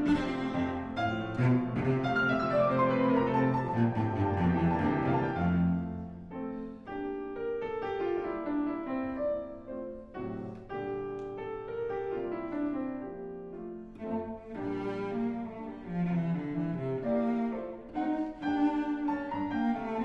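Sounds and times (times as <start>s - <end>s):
calm piano music: 0.0s - 20.0s.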